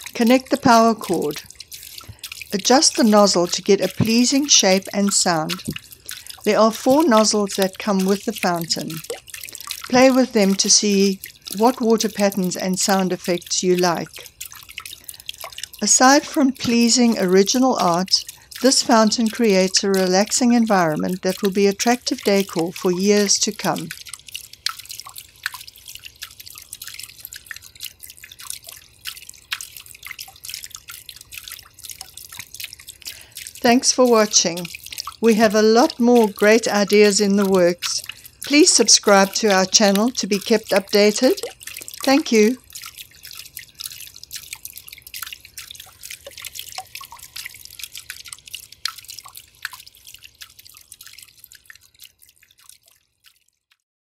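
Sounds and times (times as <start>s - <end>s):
fountain water dripping and splashing: 0.0s - 53.8s.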